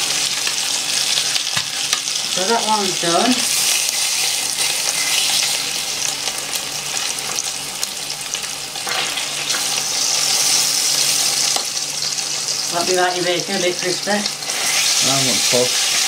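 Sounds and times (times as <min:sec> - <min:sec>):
bacon sizzling in frying pan: 0:00.0 - 0:16.0.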